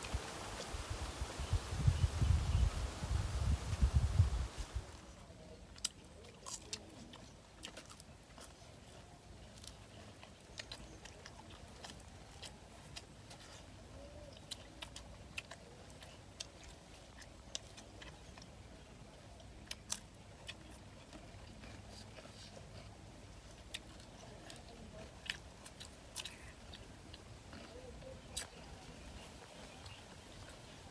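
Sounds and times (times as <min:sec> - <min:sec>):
faint chewing: 0:04.8 - 0:30.9.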